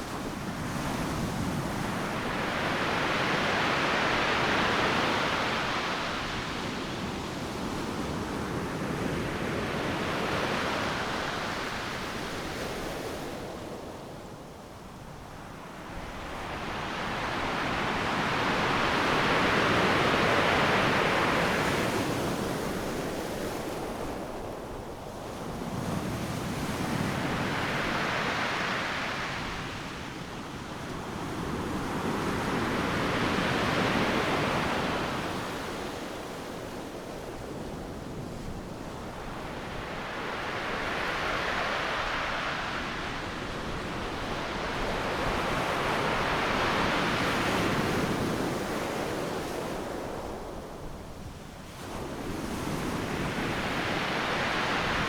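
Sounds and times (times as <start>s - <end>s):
ocean waves breaking on beach: 0.0s - 14.1s, 15.3s - 55.0s.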